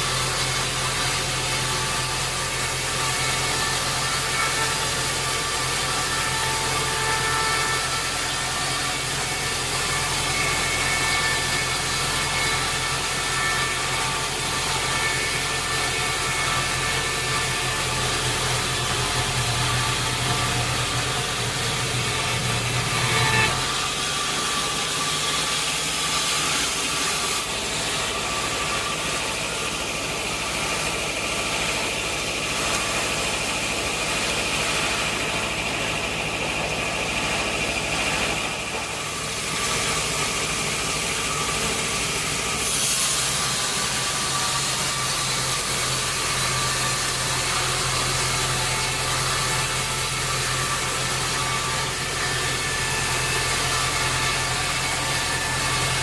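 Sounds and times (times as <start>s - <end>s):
sawmill machinery drone and hiss: 0.0s - 56.0s.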